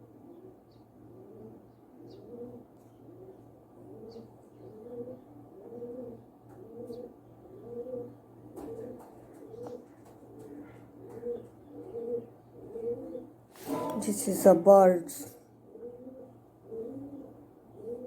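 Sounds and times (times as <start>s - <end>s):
pigeon cooing: 0.0s - 14.7s, 15.6s - 18.0s.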